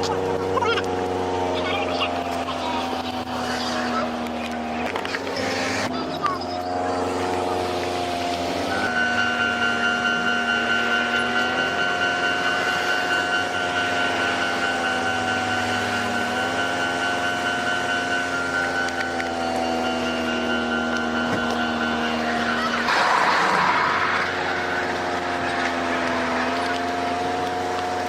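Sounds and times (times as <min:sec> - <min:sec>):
high-pitched whine: 0:00.0 - 0:28.0
vehicle engine running: 0:00.0 - 0:28.0.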